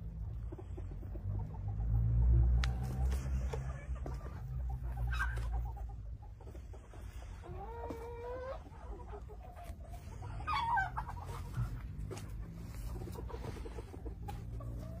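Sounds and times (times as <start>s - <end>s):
chicken calling: 2.6s - 15.0s.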